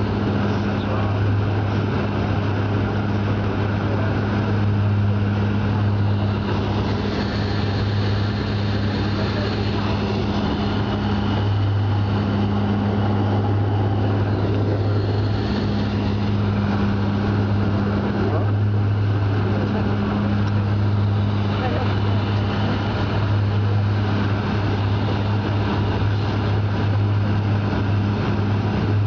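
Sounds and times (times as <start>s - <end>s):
higher engine tone: 0.0s - 29.0s
propeller drone: 0.0s - 29.0s.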